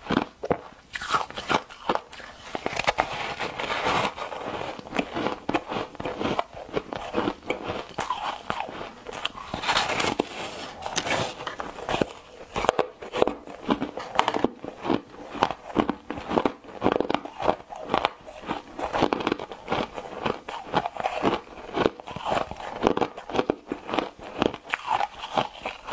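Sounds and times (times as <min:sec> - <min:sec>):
ice being chewed crunching: 0:00.0 - 0:25.9.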